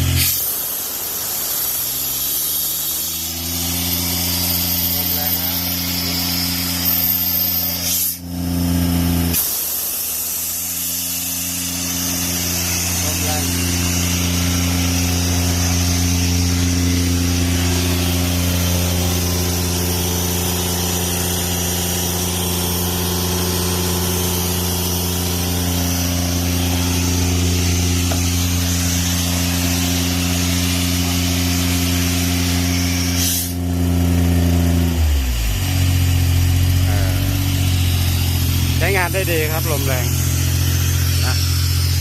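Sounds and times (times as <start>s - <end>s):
compressed air hissing: 0.0s - 42.0s
diesel engine running under load: 2.3s - 42.0s.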